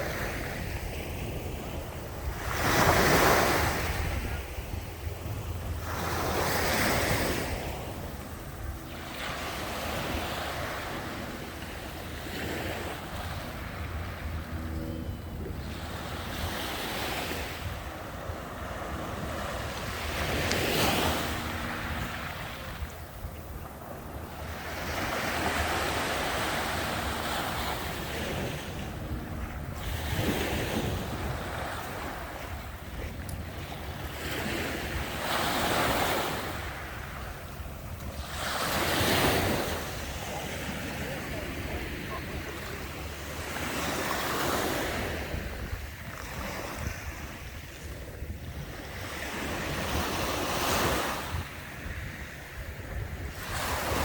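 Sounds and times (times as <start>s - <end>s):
waves breaking: 0.0s - 54.0s
wind rumbling on microphone: 0.0s - 54.0s.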